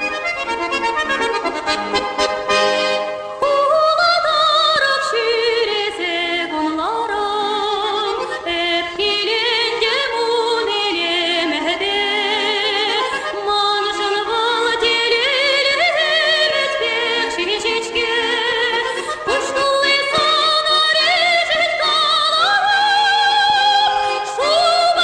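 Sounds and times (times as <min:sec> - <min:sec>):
song with singing voice: 0:00.0 - 0:25.0.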